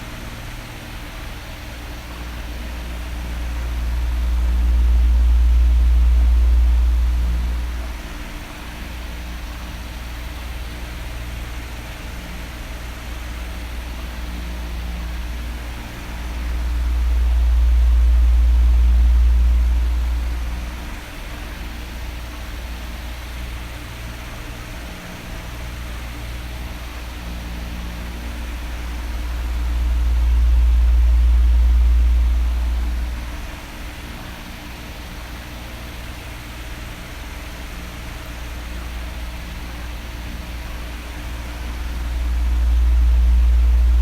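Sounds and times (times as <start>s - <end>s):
electric fan blowing: 0.0s - 44.0s.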